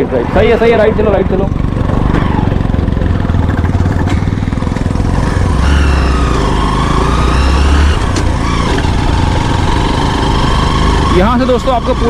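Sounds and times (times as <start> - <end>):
motorbike engine running: 1.0 - 12.0.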